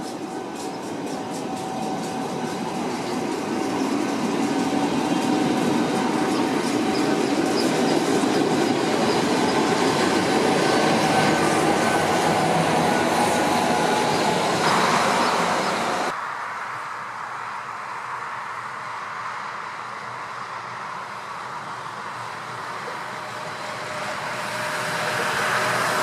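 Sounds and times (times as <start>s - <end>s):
train wheels rumbling on rails: 0.0s - 16.2s, 20.4s - 26.0s.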